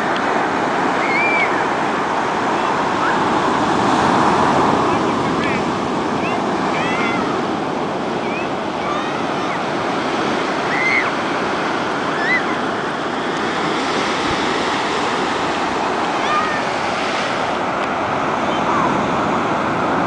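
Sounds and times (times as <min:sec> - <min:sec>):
ocean surf breaking on beach: 0:00.0 - 0:20.0.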